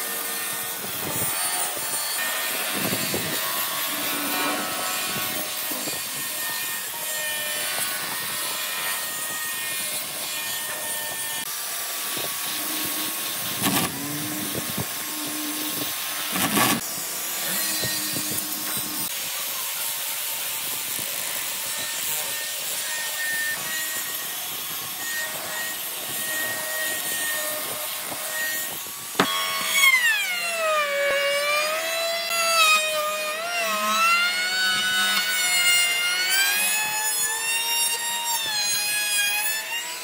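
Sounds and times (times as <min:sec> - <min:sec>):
electric grinder sanding wood: 0:00.0 - 0:40.0
router motor whine cutting wood: 0:00.0 - 0:40.0.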